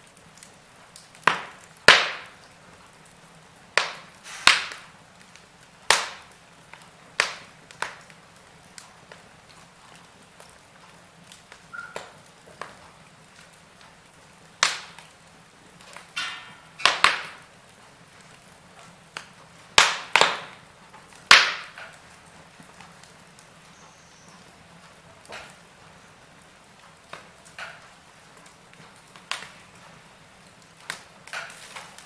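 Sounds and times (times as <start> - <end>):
fire crackling and popping: 0.0 - 32.0.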